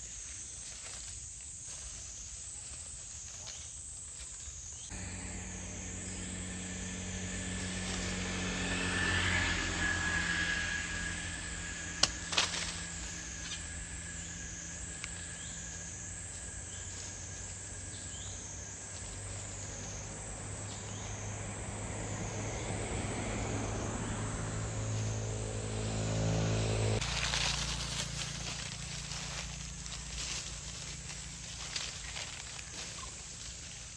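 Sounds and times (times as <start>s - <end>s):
insects buzzing: 0.0s - 33.9s
low engine-like hum: 4.7s - 33.9s.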